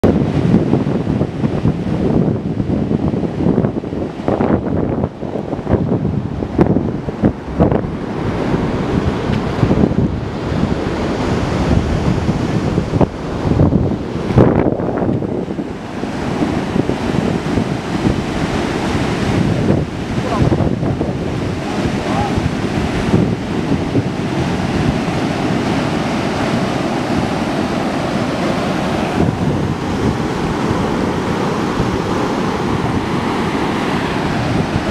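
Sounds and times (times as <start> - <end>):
surf breaking on beach: 0.0 - 34.9
wind buffeting microphone: 0.0 - 34.9.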